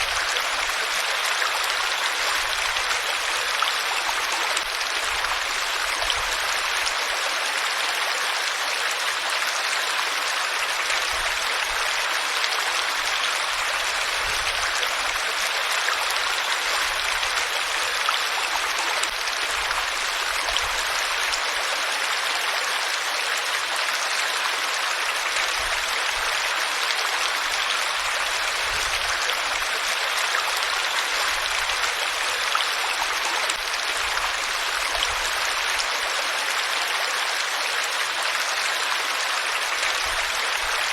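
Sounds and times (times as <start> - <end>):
rushing stream: 0.0 - 40.9.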